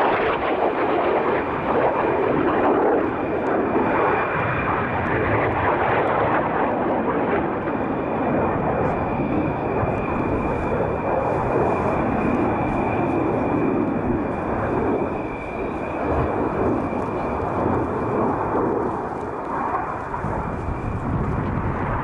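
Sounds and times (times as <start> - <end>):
jet roaring overhead: 0.0 - 22.0.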